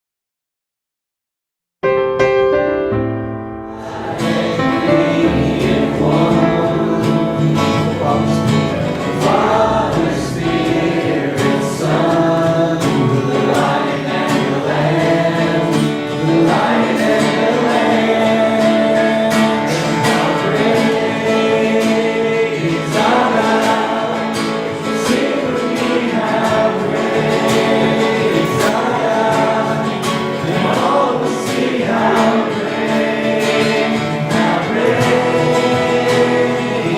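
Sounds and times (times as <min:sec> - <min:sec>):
band with guitar and beat: 0:03.7 - 0:36.9
group of voices singing: 0:03.7 - 0:36.9.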